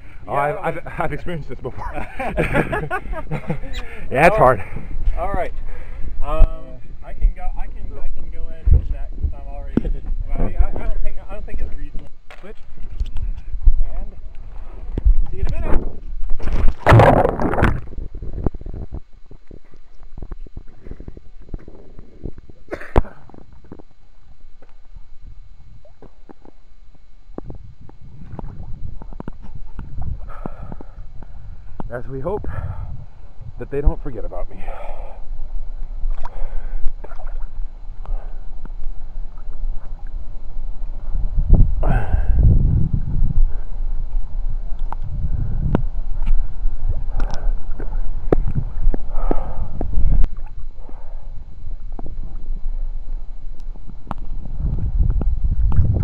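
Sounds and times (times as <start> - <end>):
wind buffeting microphone: 0.0 - 24.0, 27.0 - 56.0
low gurgling rumble: 0.0 - 56.0.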